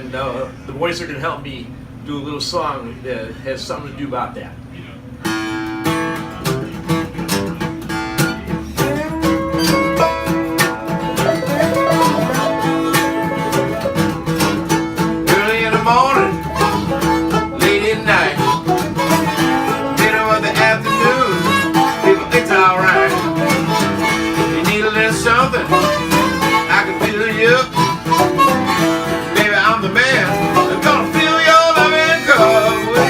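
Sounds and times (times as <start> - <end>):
bluegrass string band: 5.3 - 33.0
sliding string notes: 5.4 - 33.0.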